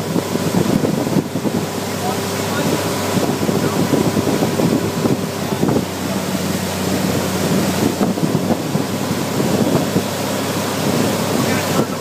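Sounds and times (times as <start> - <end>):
boat wake rushing: 0.0 - 12.0
outboard motor droning: 0.0 - 12.0
wind buffeting microphone: 0.0 - 12.0.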